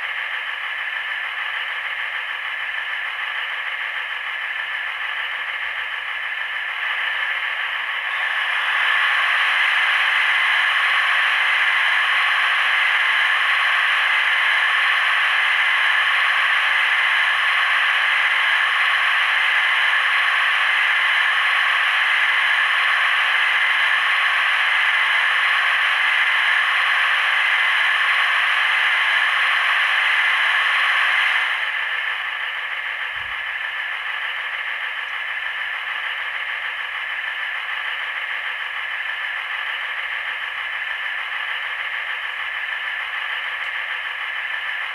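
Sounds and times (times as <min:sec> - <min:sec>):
diesel engine sound through small speaker: 0:00.0 - 0:44.9.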